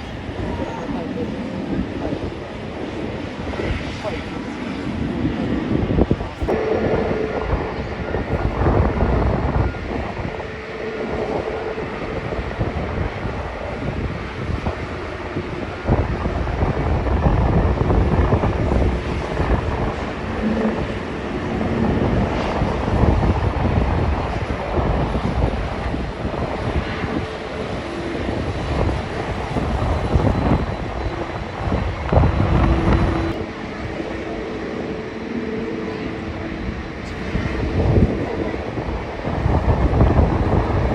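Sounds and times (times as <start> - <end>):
jet engine rumble: 0.0 - 40.9.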